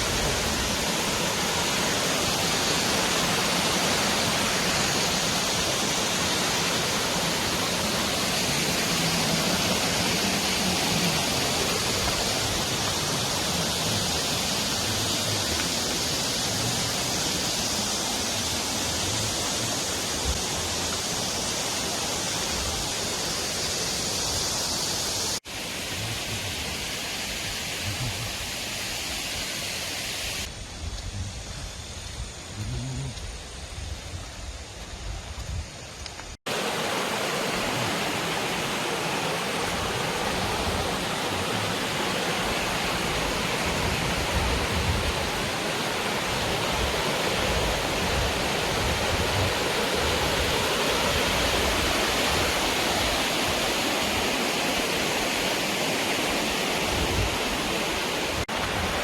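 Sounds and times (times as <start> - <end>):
stream water rushing: 0.0 - 30.6, 33.8 - 59.0.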